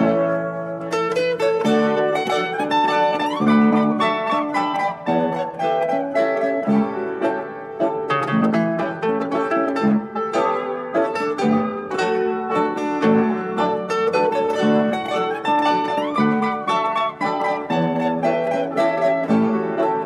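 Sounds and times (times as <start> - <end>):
plucked string music: 0.0 - 20.0.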